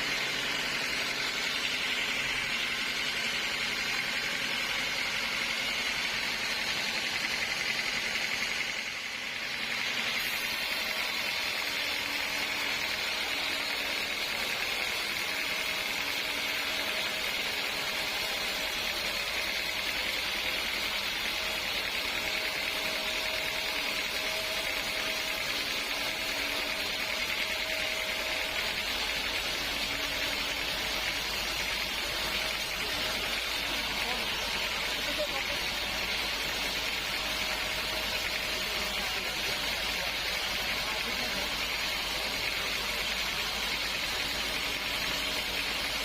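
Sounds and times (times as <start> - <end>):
sawmill saw hissing: 0.0 - 46.0.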